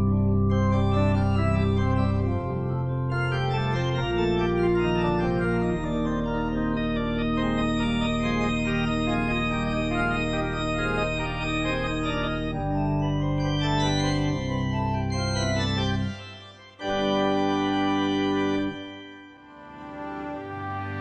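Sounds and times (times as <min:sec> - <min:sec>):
slow music of held chords: 0:00.0 - 0:21.0.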